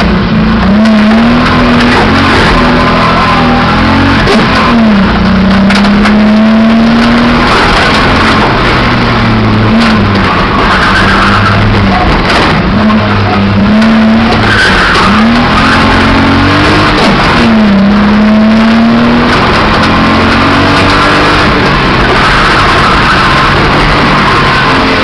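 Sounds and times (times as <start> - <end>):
road noise rushing: 0.0 - 25.0
rough car engine under load: 0.0 - 25.0.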